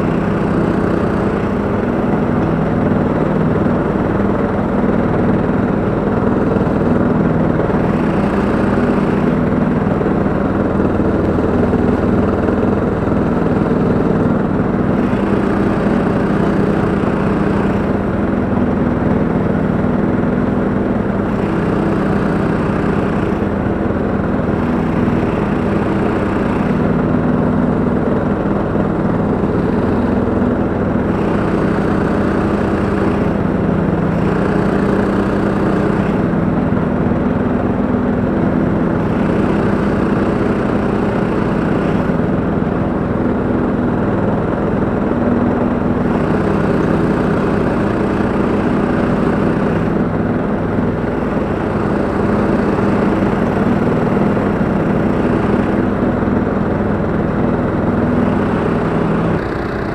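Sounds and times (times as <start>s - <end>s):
flail mower engine: 0.0s - 59.9s
lawn tractor engine drone: 0.0s - 59.9s.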